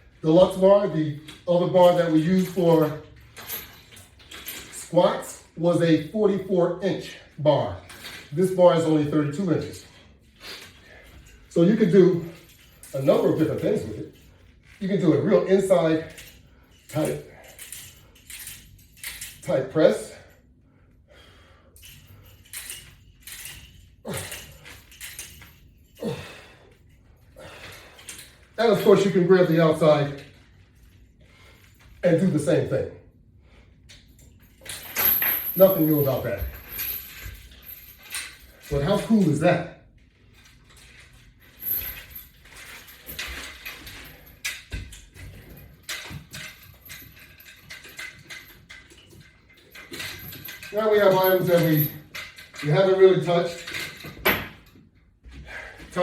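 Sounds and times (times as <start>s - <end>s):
metal chains rattling and clinking: 0.0s - 20.6s, 21.2s - 56.0s.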